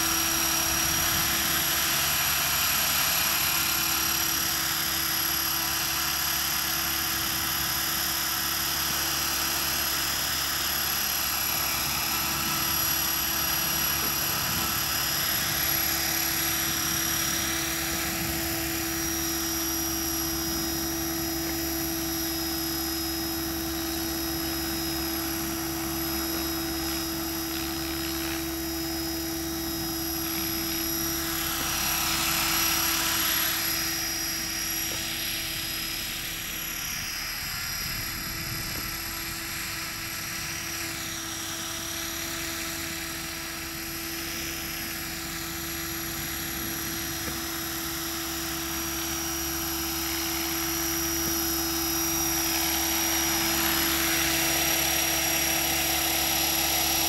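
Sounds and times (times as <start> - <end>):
radio-controlled helicopter whine: 0.0 - 57.0.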